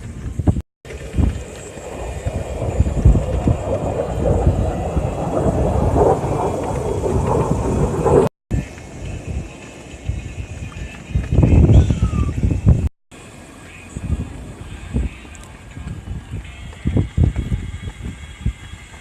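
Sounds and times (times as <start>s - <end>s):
wind buffeting microphone: 0.0s - 12.9s, 13.9s - 19.0s
aircraft engine roar: 0.0s - 19.0s.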